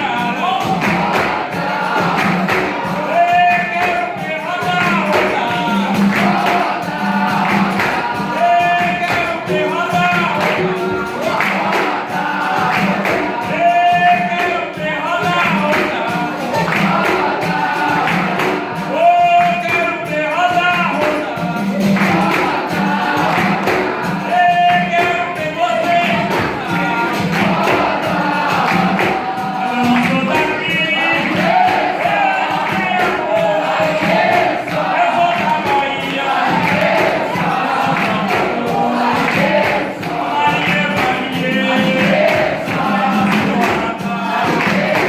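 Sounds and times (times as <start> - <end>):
group singing in chorus: 0.0 - 45.0
hand percussion beat: 0.0 - 45.0.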